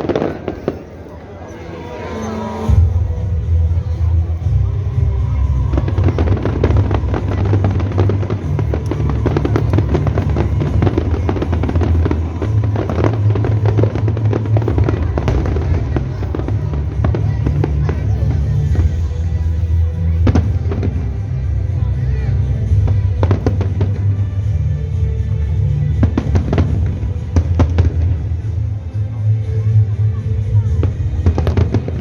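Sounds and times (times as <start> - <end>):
fireworks bursting and crackling: 0.0 - 1.3, 2.7 - 28.7, 30.8 - 32.0.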